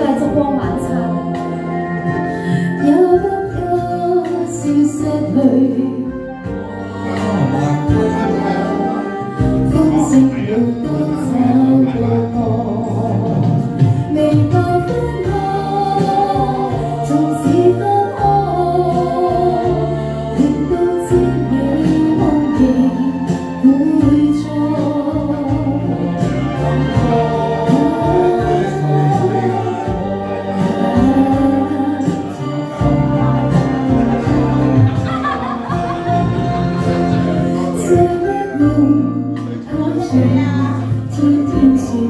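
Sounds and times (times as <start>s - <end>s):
woman singing into a microphone: 0.0s - 34.3s, 36.8s - 42.0s
karaoke pop ballad backing track: 0.0s - 42.0s.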